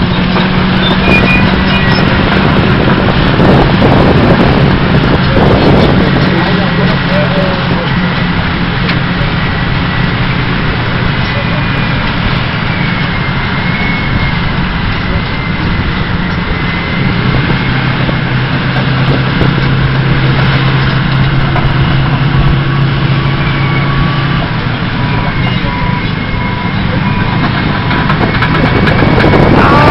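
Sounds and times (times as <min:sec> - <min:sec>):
heavy diesel machinery under load: 0:00.0 - 0:29.9
scraper engine passing close: 0:00.0 - 0:29.9.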